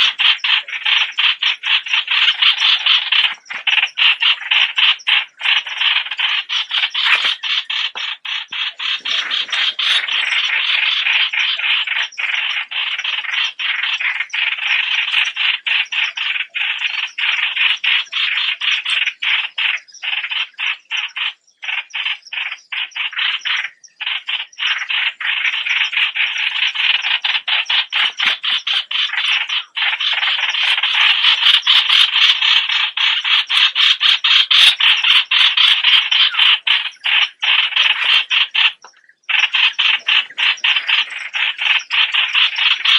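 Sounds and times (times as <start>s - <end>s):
bulbuls chattering: 0.0s - 42.9s.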